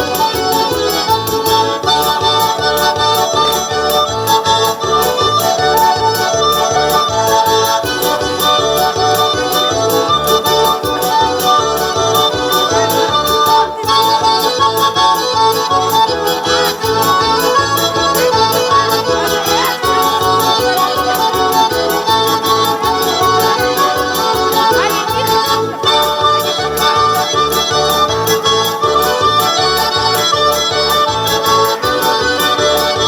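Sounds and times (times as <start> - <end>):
accordion folk dance music: 0.0 - 33.0.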